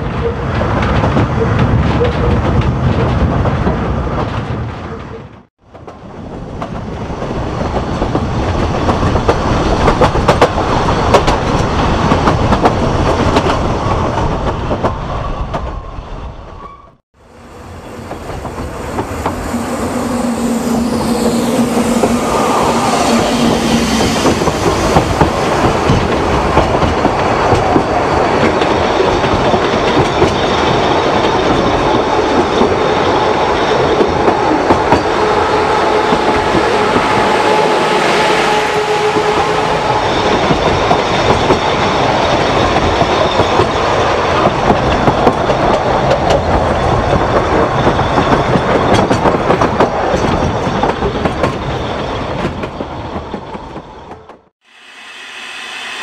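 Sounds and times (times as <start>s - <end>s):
passing train carriages: 0.0s - 54.5s
train rumbling: 0.0s - 56.0s.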